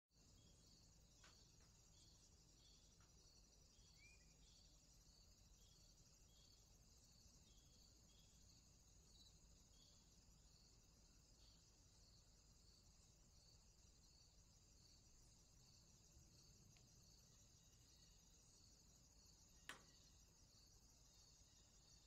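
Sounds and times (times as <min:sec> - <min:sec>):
insect chirping trill: 0:00.2 - 0:22.0.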